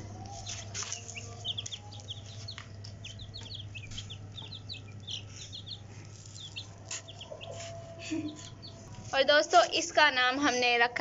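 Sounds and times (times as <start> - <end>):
chicks peeping: 0.0 - 10.7
steady low hum: 0.0 - 11.0.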